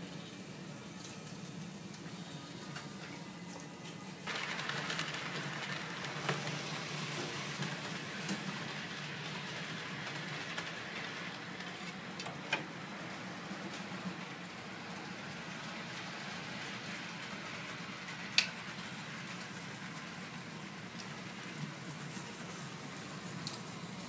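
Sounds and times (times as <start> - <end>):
model train whirring: 4.2 - 24.0.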